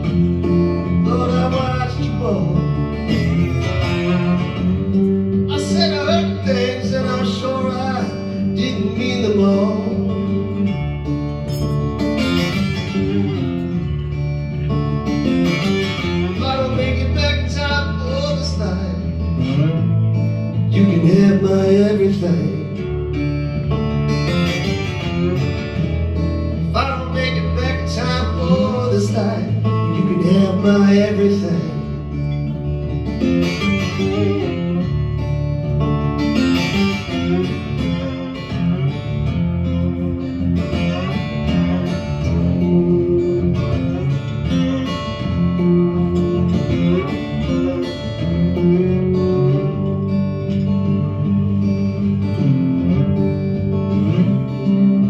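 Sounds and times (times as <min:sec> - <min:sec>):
slide guitar playing: 0:00.0 - 0:55.0.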